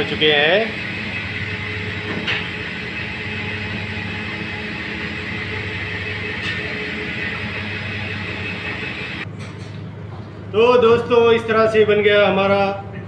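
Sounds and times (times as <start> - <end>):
exhaust hood fan humming: 0.0 - 13.0.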